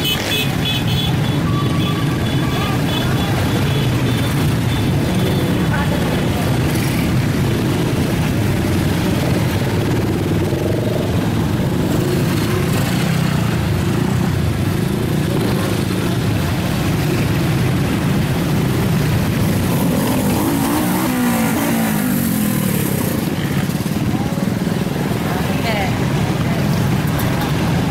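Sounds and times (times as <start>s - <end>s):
road traffic engines rumbling: 0.0s - 27.9s.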